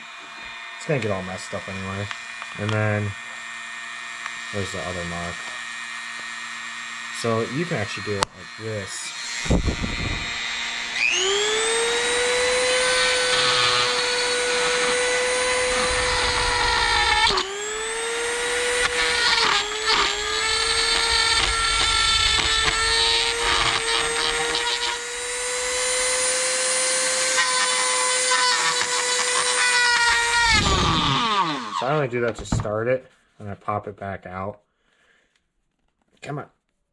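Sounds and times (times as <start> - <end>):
rotary tool whining: 0.0 - 32.1
rotary bit cutting plastic: 2.0 - 32.0.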